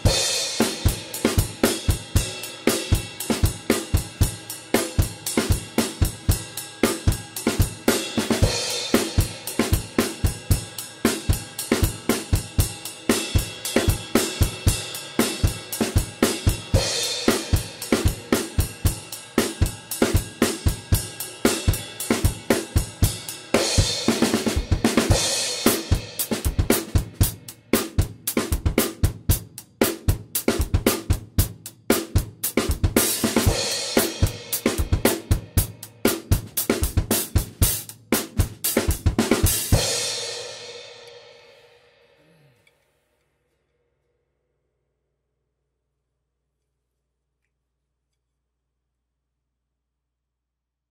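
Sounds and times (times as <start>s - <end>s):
drum kit rock beat: 0.0s - 41.2s.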